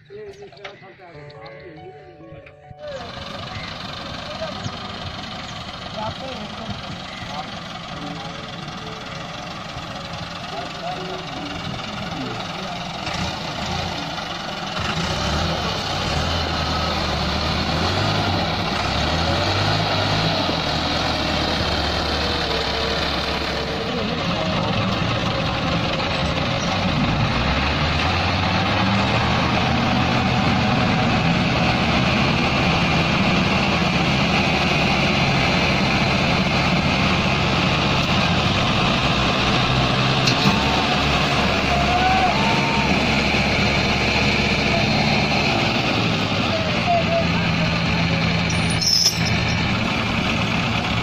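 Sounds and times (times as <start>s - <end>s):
diesel tractor engines revving: 2.4s - 51.0s.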